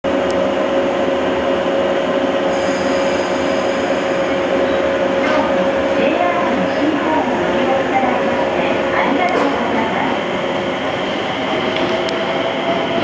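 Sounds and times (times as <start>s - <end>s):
electric train humming: 0.1s - 13.0s.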